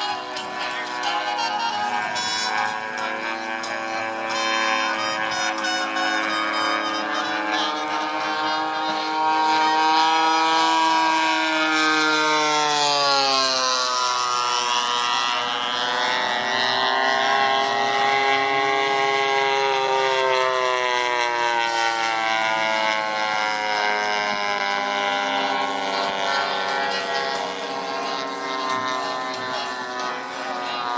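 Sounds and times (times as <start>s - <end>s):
model plane engine in flight: 0.0s - 30.9s.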